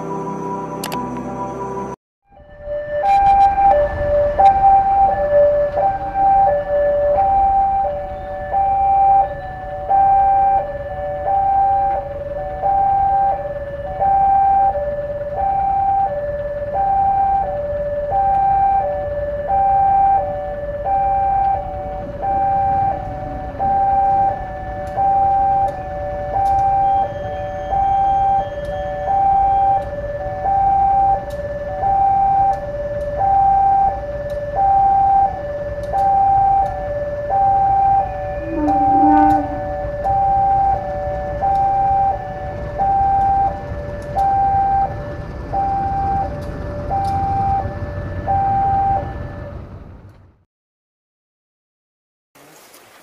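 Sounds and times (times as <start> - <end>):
two-tone level-crossing alarm: 2.3 - 49.8.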